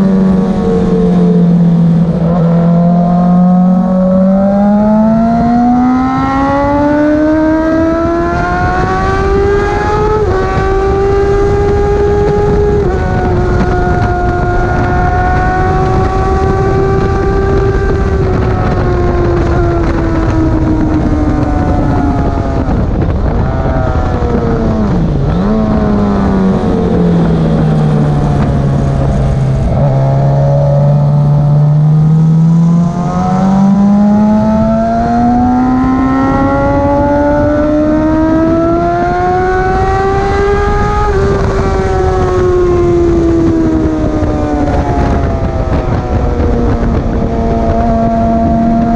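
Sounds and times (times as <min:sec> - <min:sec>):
racing motorcycle engine: 0:00.0 - 0:48.9
steady rushing noise: 0:00.0 - 0:48.9.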